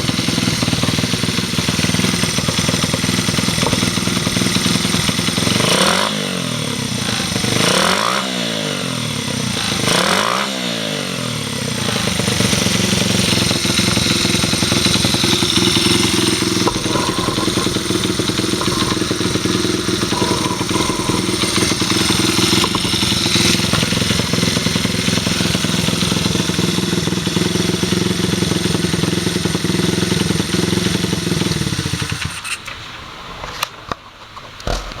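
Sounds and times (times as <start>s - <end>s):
small engine revving and idling: 0.0s - 32.5s.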